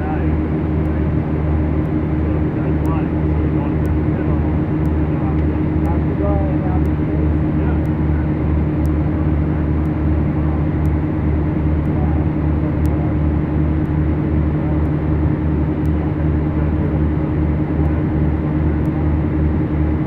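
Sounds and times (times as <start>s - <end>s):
aircraft engines and propellers droning: 0.0s - 20.0s.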